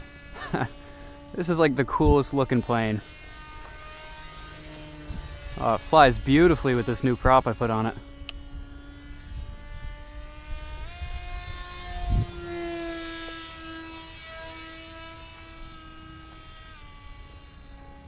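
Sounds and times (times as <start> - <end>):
model airplane motor whining: 0.0 - 18.0.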